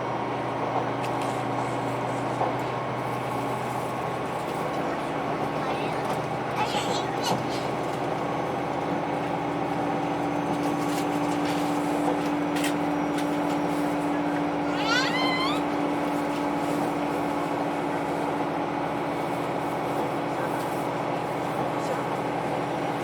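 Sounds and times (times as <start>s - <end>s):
train diesel engine droning: 0.0s - 23.0s.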